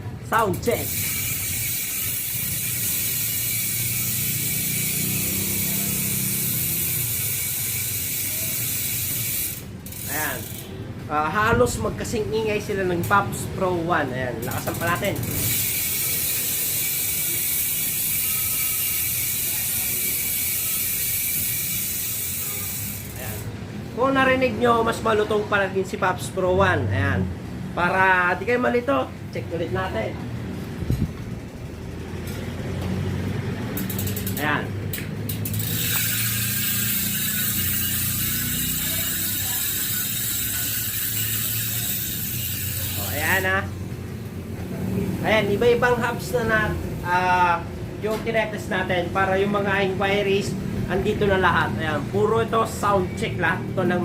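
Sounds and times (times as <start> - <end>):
bicycle hub ratchet clicking: 0.3 - 10.8, 11.6 - 23.7, 30.7 - 53.4.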